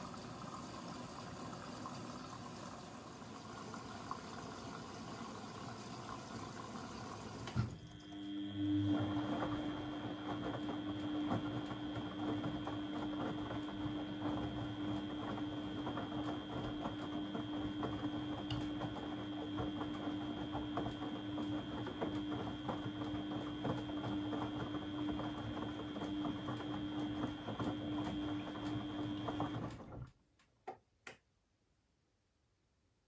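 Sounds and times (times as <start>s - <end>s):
washing machine running: 0.0s - 30.2s.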